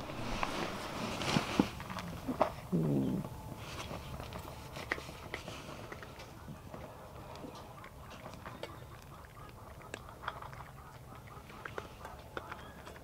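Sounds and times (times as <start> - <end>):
cats crunching dry kibble: 0.0 - 13.0.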